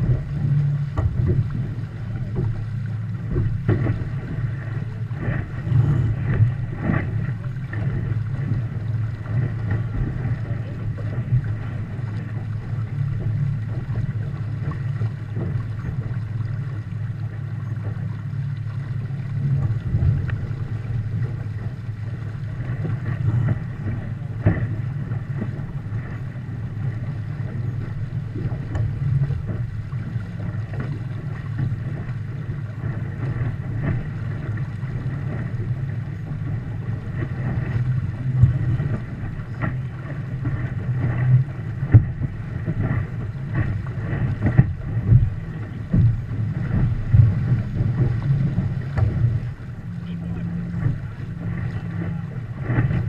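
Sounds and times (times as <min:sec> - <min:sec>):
water rushing along hull: 0:00.0 - 0:53.0
water slapping and knocking: 0:00.0 - 0:53.0
wind buffeting microphone: 0:00.0 - 0:53.0.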